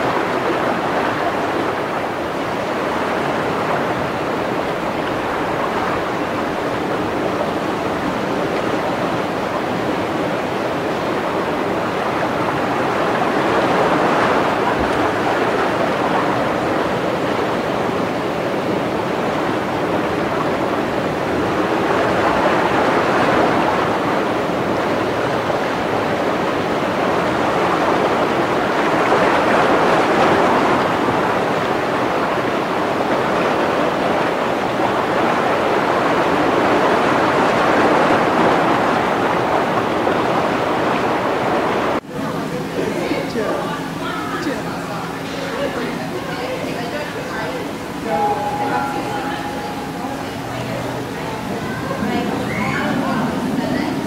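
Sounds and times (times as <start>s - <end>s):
rushing water in aquarium: 0.0s - 54.0s.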